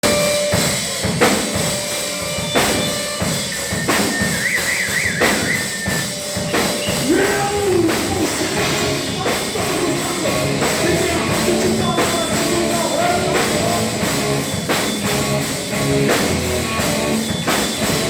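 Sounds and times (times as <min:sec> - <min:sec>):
drum kit hits and cymbals: 0:00.0 - 0:18.0
live hardcore band: 0:00.0 - 0:18.0.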